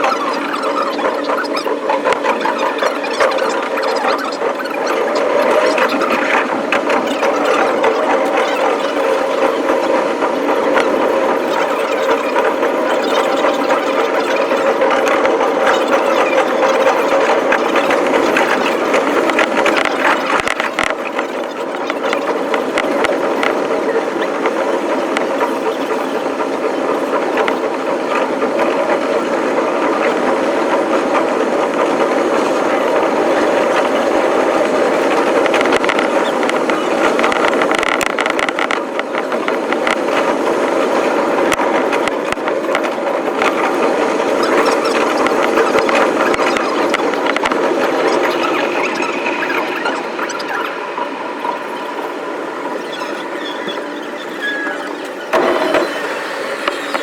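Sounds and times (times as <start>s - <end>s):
train wheel and rail clatter: 0.0s - 51.8s, 52.8s - 57.0s.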